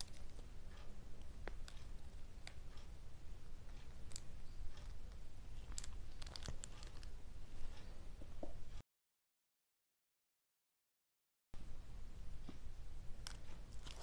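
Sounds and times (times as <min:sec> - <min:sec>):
low steady hum: 0:00.0 - 0:08.8, 0:11.6 - 0:14.0.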